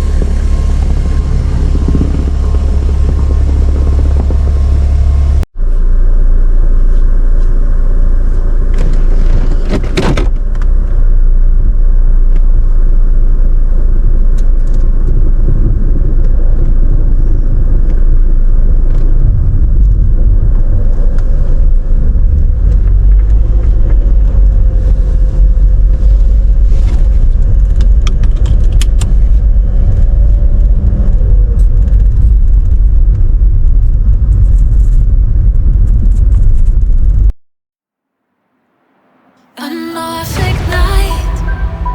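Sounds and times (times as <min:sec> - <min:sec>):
car road rumble: 0:00.0 - 0:37.3.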